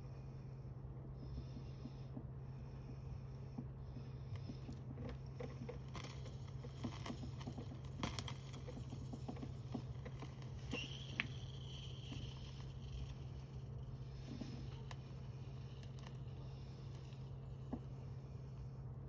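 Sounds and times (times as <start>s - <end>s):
steady low hum: 0.0s - 19.0s
wood fire crackling: 2.4s - 19.0s.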